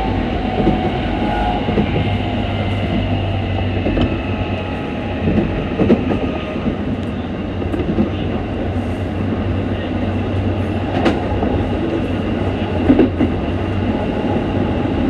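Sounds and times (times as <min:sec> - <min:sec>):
electric train motor hum and whine: 0:00.0 - 0:15.0
train rolling rumble: 0:00.0 - 0:15.0.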